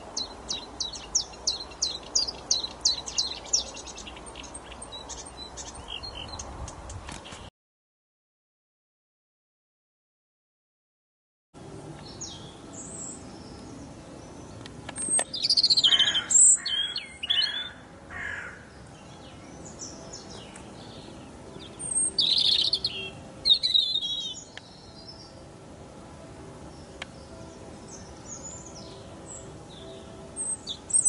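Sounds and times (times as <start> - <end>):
robin singing: 0.0 - 7.5, 12.0 - 31.0.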